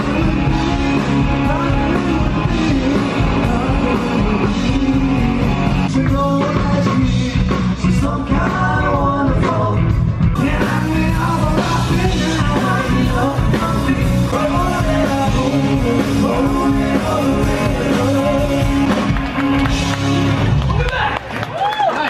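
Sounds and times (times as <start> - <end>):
person singing: 0.0 - 19.8
live rock band: 0.0 - 22.0.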